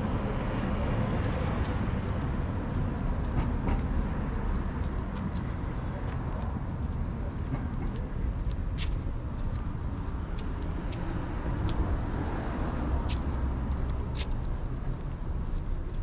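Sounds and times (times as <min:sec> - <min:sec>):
cars rumbling along road: 0:00.0 - 0:16.0.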